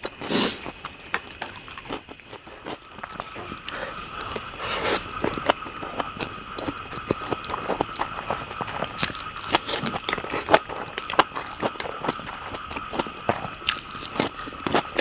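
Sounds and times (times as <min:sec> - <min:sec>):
chewing clicks and smacks: 0:00.7 - 0:15.0.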